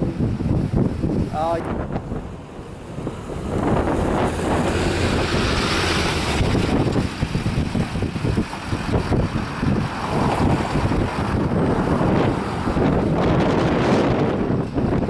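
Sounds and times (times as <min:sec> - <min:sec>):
wind buffeting microphone: 0:00.0 - 0:15.0
truck rolling slowly past: 0:01.8 - 0:15.0.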